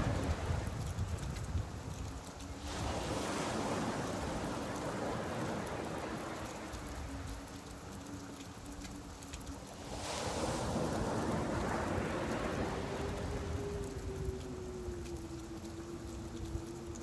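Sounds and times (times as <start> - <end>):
rain falling: 0.0 - 17.0
waves washing on a beach: 0.0 - 17.0.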